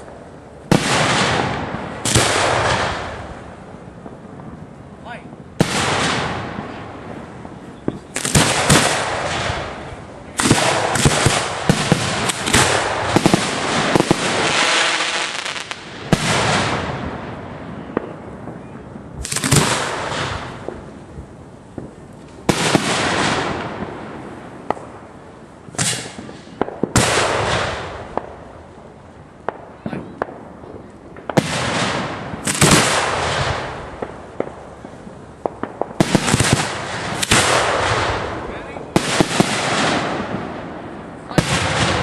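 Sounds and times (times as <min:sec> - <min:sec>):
fireworks bangs with hiss: 0:00.0 - 0:42.0.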